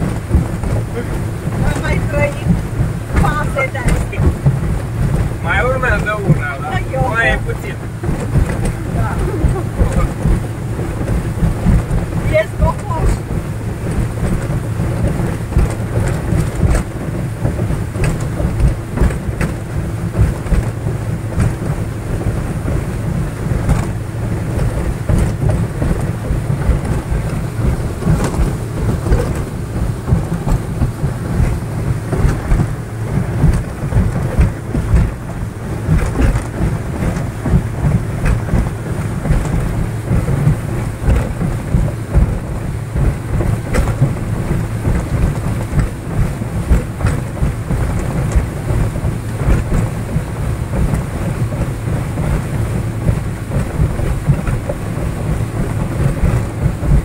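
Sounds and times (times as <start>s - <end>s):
motorboat engine rumble: 0.0s - 57.0s
water rushing against hull: 0.0s - 57.0s.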